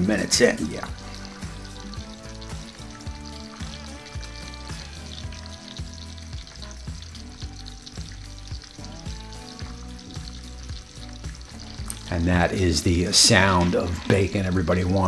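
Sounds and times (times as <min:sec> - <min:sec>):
bacon sizzling and crackling: 0:00.0 - 0:15.0.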